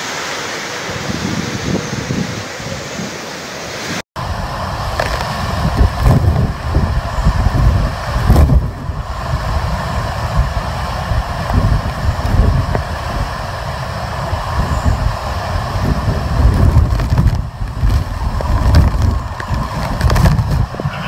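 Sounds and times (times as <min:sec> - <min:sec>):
wind buffeting microphone: 0:00.9 - 0:03.2, 0:04.2 - 0:21.0.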